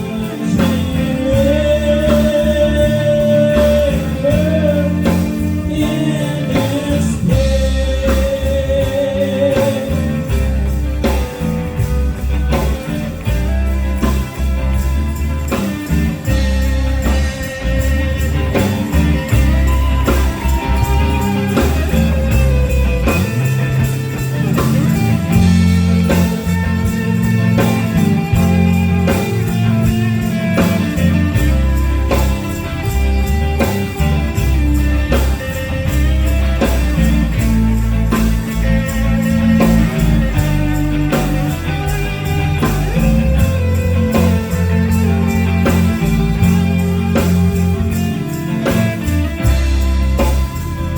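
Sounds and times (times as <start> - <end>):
bass: 0.0 - 50.9
drums with steady beat: 0.0 - 50.9
guitar: 0.0 - 50.9.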